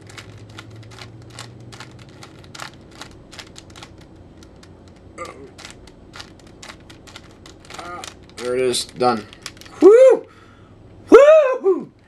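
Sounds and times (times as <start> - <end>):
plastic puzzle cube clicking: 0.0 - 9.8.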